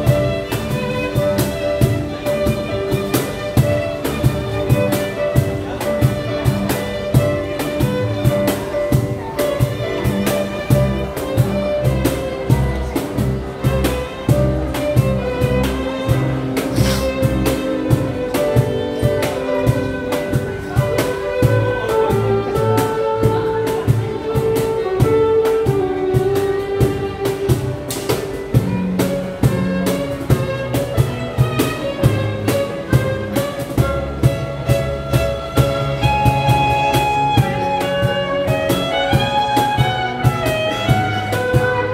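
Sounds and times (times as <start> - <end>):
bowed string melody: 0.0 - 41.9
steady beat: 0.0 - 41.9.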